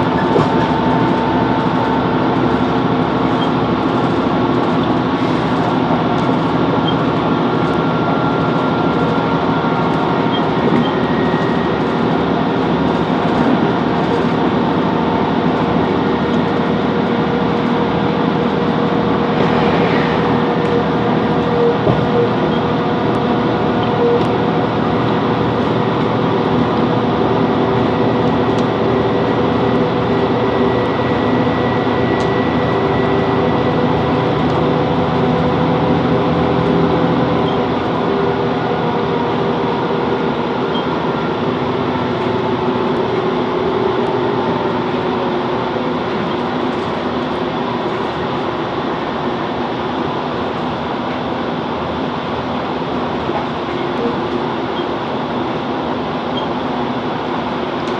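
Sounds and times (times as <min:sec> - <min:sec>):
diesel engine hum: 0:00.0 - 0:57.9
train wheels rumbling on track: 0:00.0 - 0:57.9.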